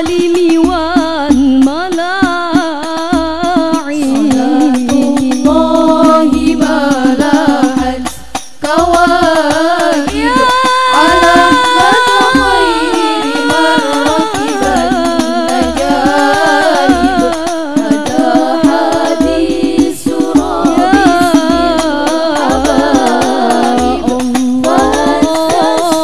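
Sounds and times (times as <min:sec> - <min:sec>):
female group singing in unison: 0:00.0 - 0:26.0
frame drums beating: 0:00.0 - 0:26.0.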